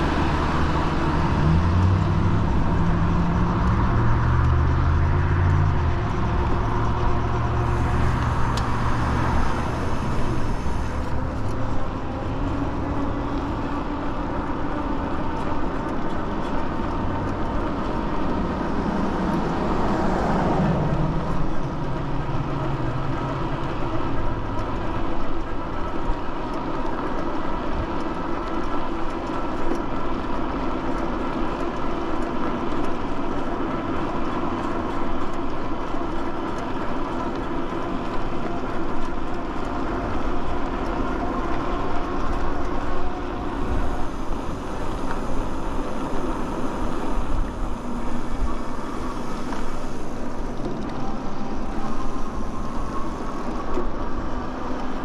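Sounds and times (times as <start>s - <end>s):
wind and tyre noise: 0.0s - 55.0s.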